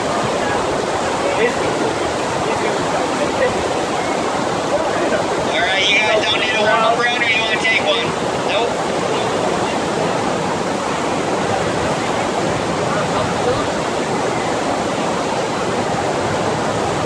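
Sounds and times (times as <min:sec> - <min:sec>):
water rushing steadily: 0:00.0 - 0:17.0.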